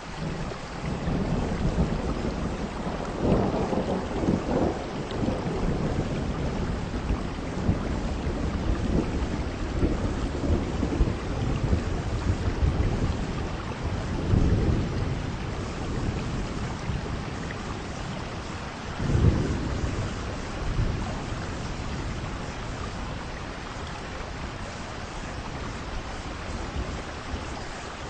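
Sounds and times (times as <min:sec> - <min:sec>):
heavy rain falling: 0:00.0 - 0:28.0
rolling thunder: 0:00.2 - 0:27.9.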